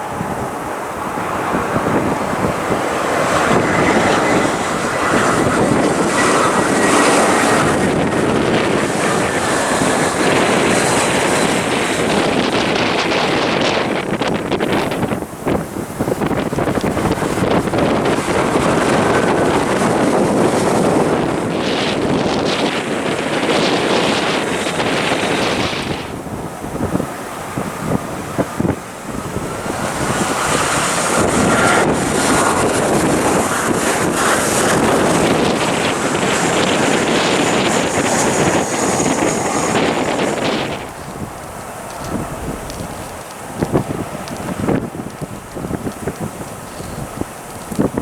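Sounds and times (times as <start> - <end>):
high engine whine: 0.0 - 48.0
jet airliner engines: 0.0 - 48.0
wind buffeting microphone: 0.0 - 48.0.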